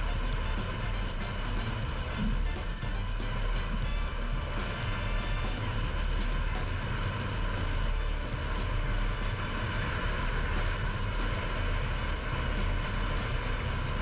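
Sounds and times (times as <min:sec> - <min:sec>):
deep rumble: 0:00.0 - 0:14.0
tyre and engine noise: 0:00.0 - 0:14.0.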